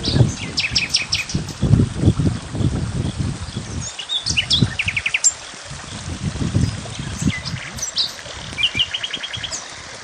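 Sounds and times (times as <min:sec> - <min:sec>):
small songbirds chirping: 0:00.0 - 0:10.0.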